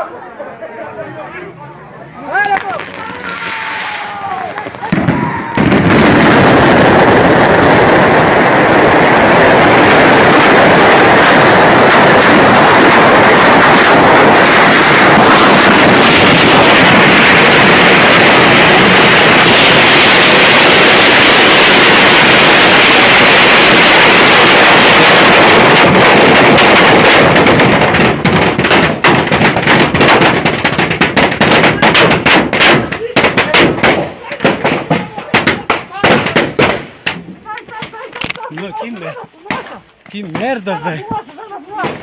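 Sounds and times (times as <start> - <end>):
firecrackers rattling: 2.2 - 42.0.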